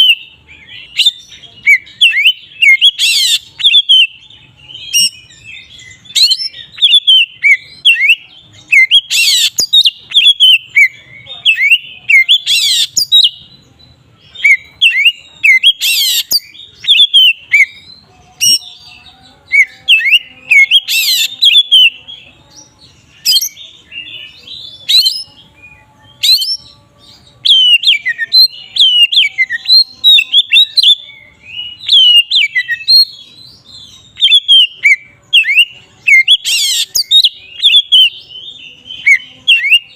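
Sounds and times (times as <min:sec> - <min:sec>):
bird singing whistled notes: 0:00.0 - 0:13.7, 0:14.3 - 0:39.9.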